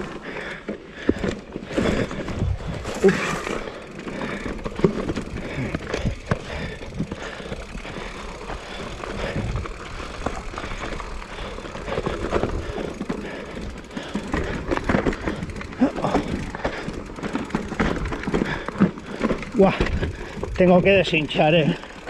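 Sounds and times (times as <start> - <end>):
bike rattling and knocking: 0.0 - 22.0
bike tyres on dirt and stones: 0.0 - 22.0.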